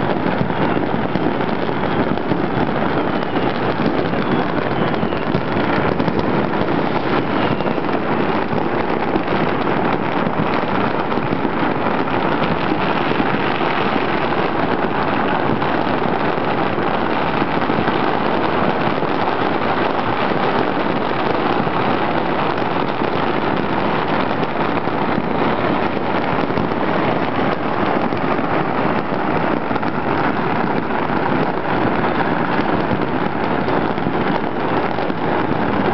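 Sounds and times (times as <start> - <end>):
firecrackers and fireworks crackling: 0.0 - 35.9.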